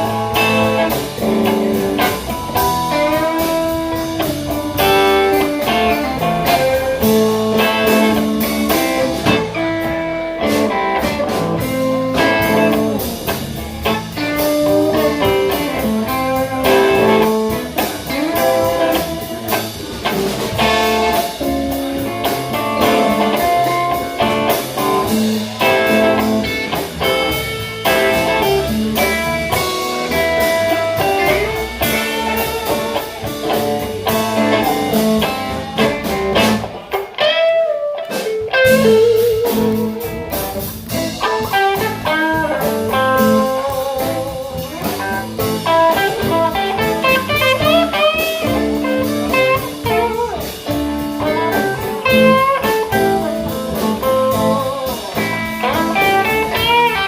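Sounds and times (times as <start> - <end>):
live blues band playing: 0.0 - 57.0.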